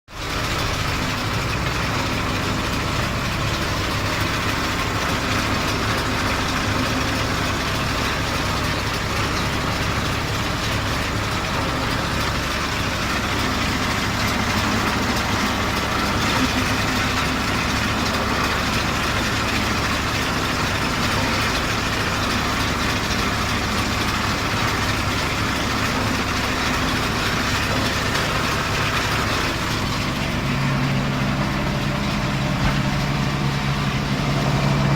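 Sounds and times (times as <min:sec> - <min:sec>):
baler mechanical rattle: 0:00.1 - 0:34.9
tractor diesel engine drone: 0:00.1 - 0:34.9.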